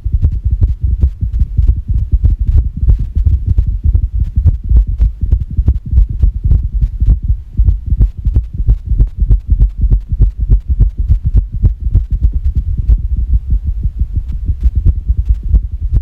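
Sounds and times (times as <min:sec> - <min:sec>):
irregular heartbeat thumps: 0:00.0 - 0:16.0.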